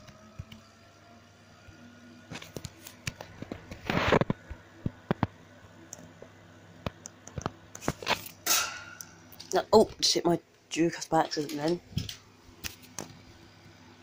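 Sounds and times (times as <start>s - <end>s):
box fan humming: 0.0s - 14.0s.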